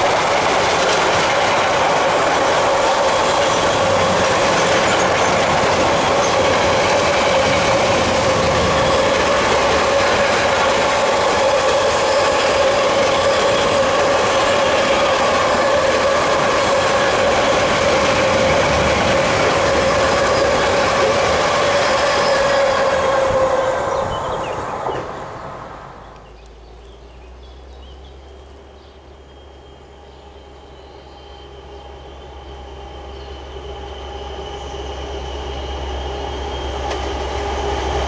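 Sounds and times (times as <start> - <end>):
freight train wagons rumbling past: 0.0 - 38.0.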